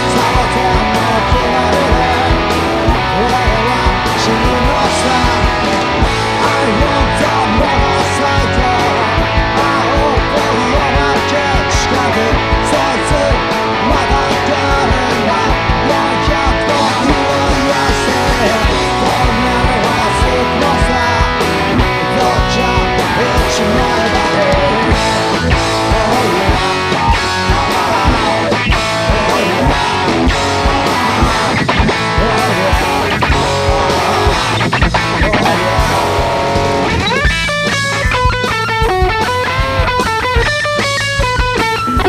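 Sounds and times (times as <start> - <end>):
drums beating: 0.0 - 42.0
electric guitar: 0.0 - 42.0
rock band music: 0.0 - 42.0.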